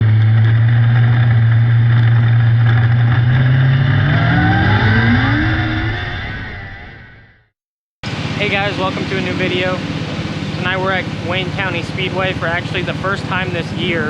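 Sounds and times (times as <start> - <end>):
racing car engines revving: 0.0 - 7.0, 8.1 - 14.0.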